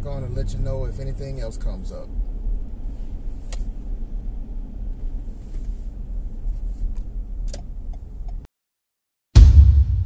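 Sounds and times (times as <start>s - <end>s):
car engine and tyres rumbling: 0.0s - 8.5s.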